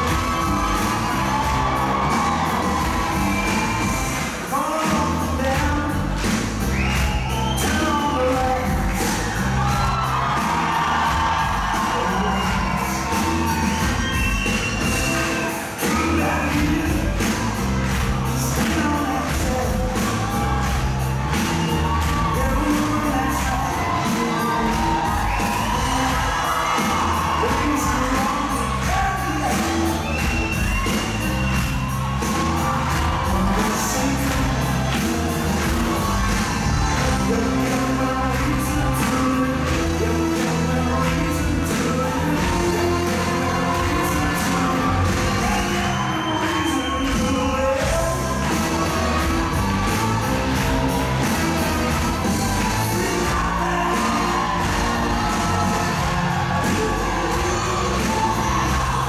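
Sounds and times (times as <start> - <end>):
crowd whooping: 0.0 - 59.0
live pop music with singing: 0.0 - 59.0.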